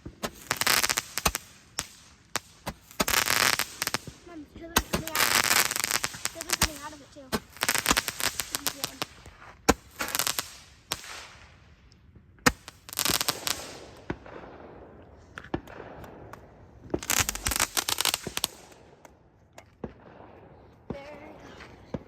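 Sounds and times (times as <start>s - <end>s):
fireworks bangs: 0.0s - 11.8s, 12.4s - 22.0s
fireworks rapid crackling: 0.0s - 11.8s, 12.4s - 19.2s.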